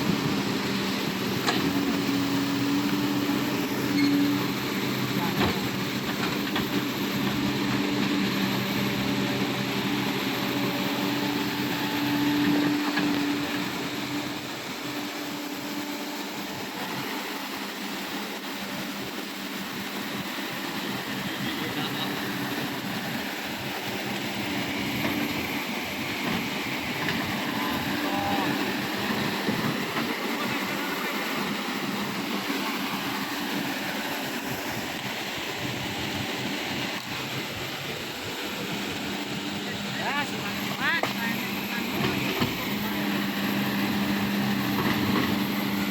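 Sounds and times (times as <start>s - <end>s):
excavator diesel engine humming: 0.0s - 45.9s
floodwater rushing: 0.0s - 45.9s.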